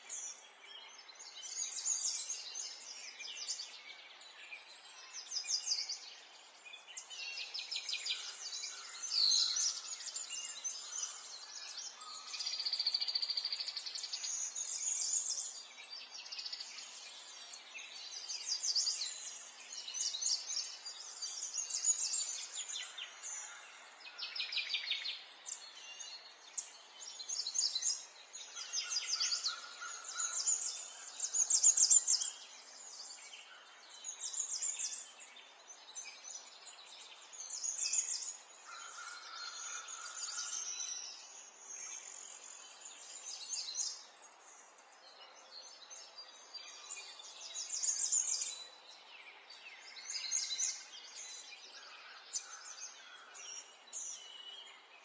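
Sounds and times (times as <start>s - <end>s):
faint background hiss: 0.0s - 55.0s
songbirds singing: 0.0s - 55.0s.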